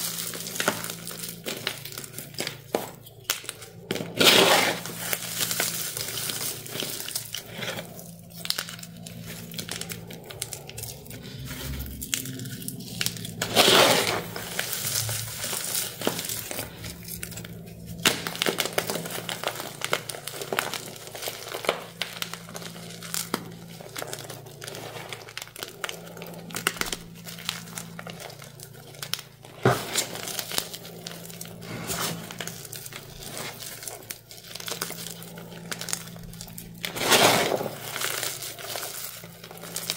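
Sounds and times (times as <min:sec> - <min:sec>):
chalky lumps crunching by hand: 0:00.0 - 0:39.9.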